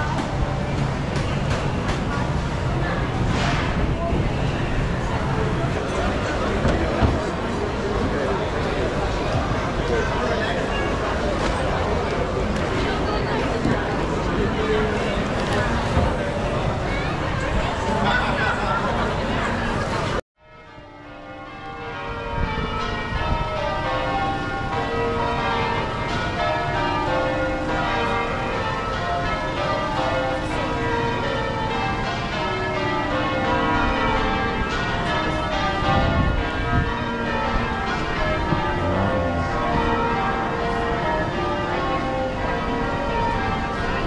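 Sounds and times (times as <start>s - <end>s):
church bells ringing: 4.4s - 44.0s.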